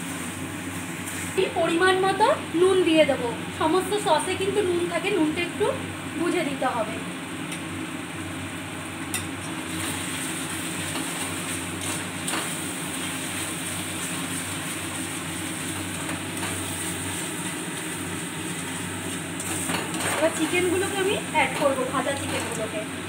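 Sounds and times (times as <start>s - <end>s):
sauce sizzling in a wok: 0.0s - 23.0s.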